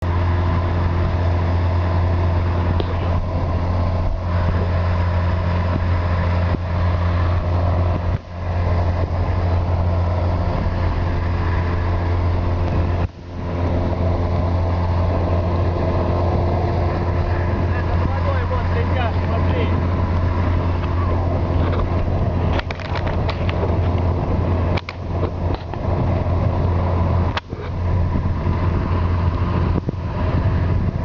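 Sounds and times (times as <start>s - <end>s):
boat motor running: 0.0s - 31.0s.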